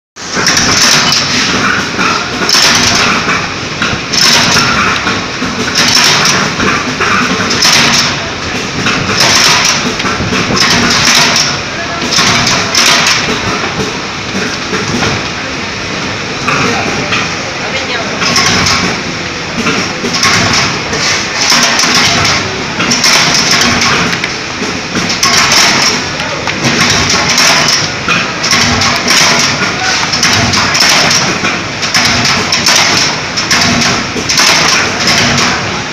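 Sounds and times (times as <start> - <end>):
power press running: 0.2 - 35.9.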